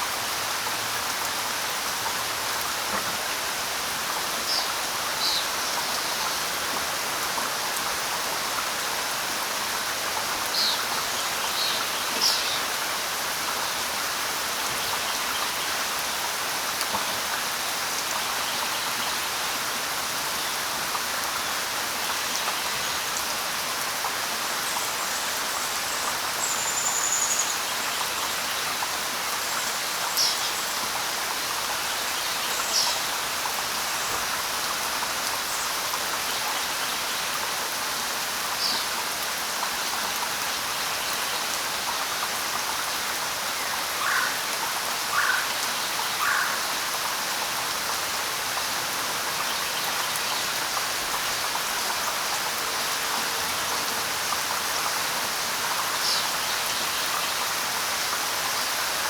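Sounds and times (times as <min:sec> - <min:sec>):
light rain pattering on leaves: 0:00.0 - 0:59.0.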